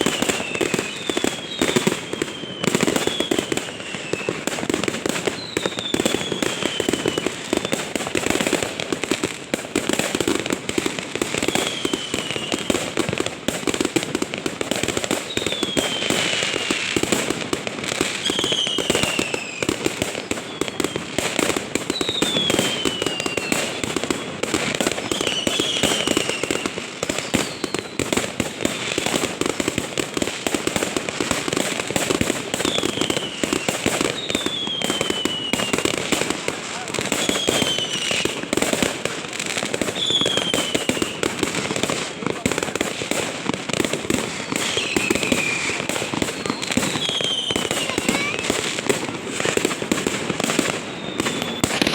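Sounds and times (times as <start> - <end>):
falling firework whistle: 0.0 - 8.8, 11.2 - 51.9
fireworks crackling: 0.0 - 51.9.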